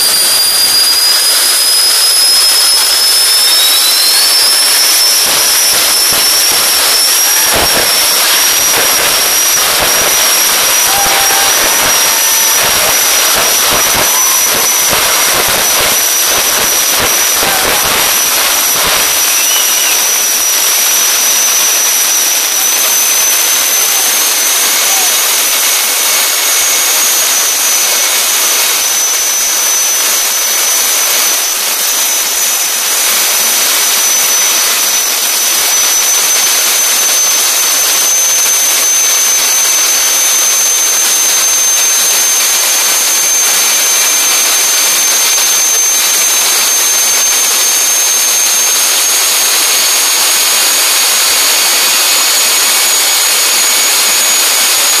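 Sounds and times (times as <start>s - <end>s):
turbine engines hissing and whining: 0.0s - 55.0s.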